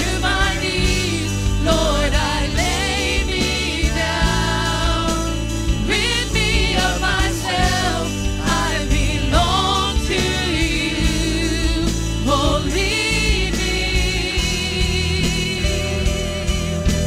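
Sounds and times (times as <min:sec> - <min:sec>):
group singing worship song: 0:00.0 - 0:17.0
instrumental accompaniment: 0:00.0 - 0:17.0.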